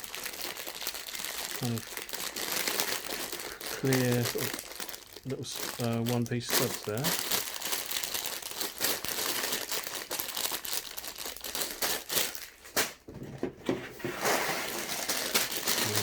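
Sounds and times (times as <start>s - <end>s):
plastic bags crinkling: 0.0s - 13.1s, 14.0s - 16.0s
plastic pieces shifting: 0.0s - 13.3s, 14.0s - 16.0s.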